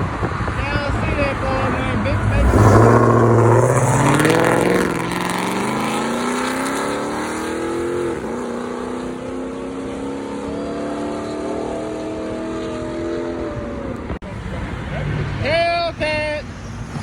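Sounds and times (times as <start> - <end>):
car accelerating hard: 0.0 - 15.4.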